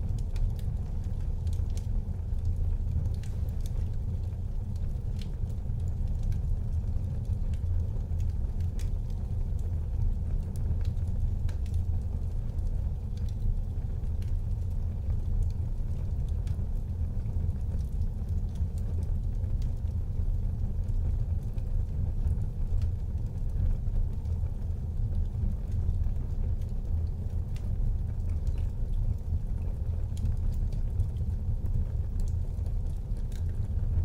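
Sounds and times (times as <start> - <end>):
fire crackling and popping: 0.0 - 34.0
fire rumbling: 0.0 - 34.0.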